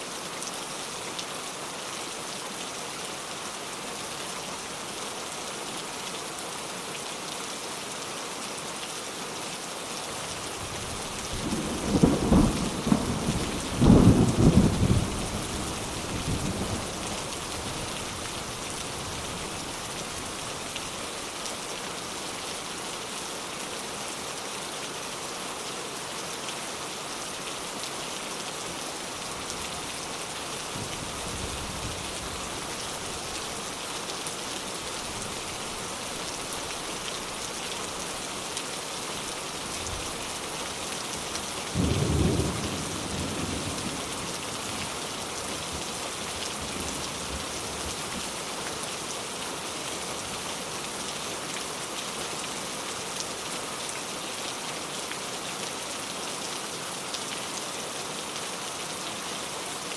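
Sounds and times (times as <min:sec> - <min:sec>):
heavy rain falling: 0:00.1 - 0:59.9.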